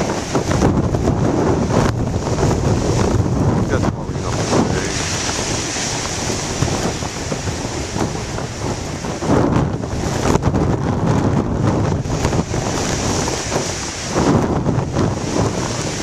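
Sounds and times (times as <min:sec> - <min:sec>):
surf breaking on rocks: 0:00.0 - 0:16.0
wind buffeting microphone: 0:00.0 - 0:16.0.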